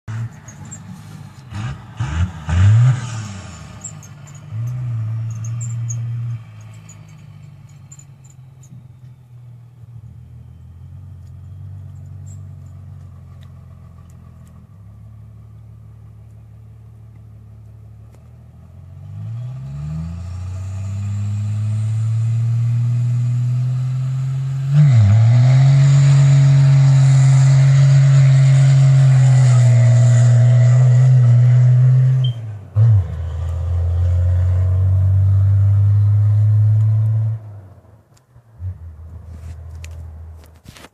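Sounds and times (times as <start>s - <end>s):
diesel engine revving: 0.1s - 16.3s, 17.9s - 40.6s.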